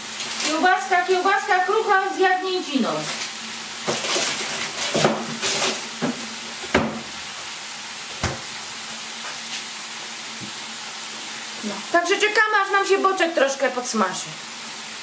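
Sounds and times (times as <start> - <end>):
bacon sizzling in a pan: 0.0 - 15.0.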